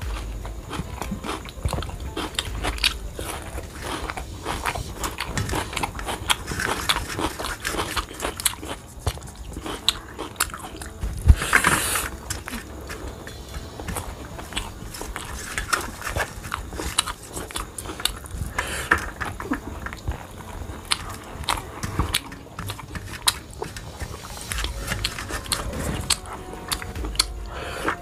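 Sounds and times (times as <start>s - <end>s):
chewing food: 0.0s - 28.0s.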